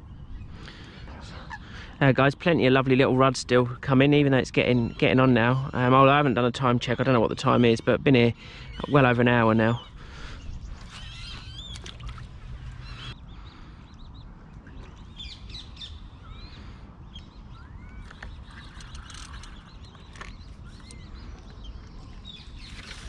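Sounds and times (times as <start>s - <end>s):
wild birds singing and calling: 0.0s - 23.0s.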